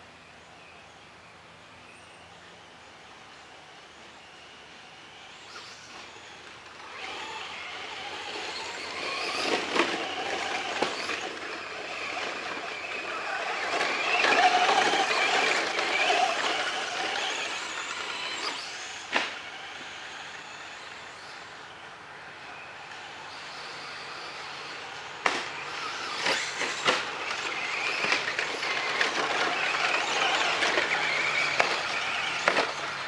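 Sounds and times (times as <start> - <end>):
toy truck motor whining: 3.9 - 33.0.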